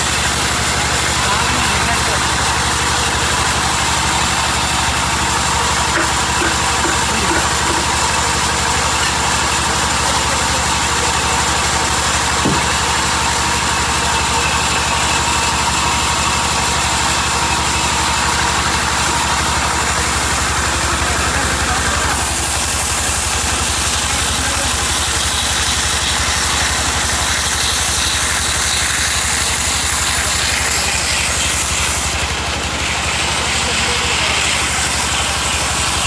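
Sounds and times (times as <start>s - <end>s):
sawmill machinery drone: 0.0s - 36.0s.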